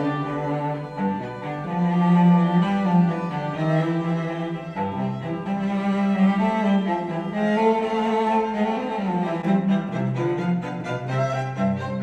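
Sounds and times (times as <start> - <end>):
classical music with low notes: 0.0 - 12.0.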